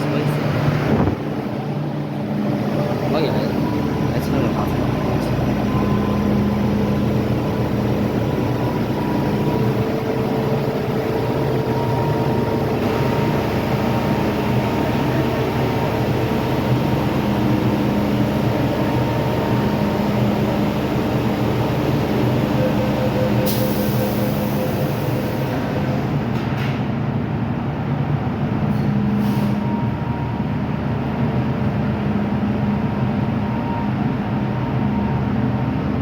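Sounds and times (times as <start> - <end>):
train traction motor hum: 0.0 - 36.0.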